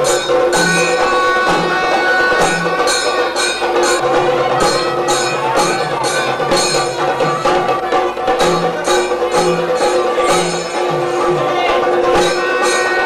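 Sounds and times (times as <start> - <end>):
drums: 0.0 - 13.0
hand cymbals clashing: 0.0 - 13.0
wind instrument melody: 0.0 - 13.0.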